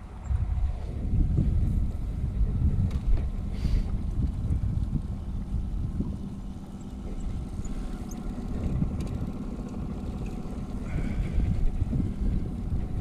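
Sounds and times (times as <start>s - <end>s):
boat motor rumbling: 0.0s - 13.0s
wind buffeting microphone: 0.0s - 13.0s.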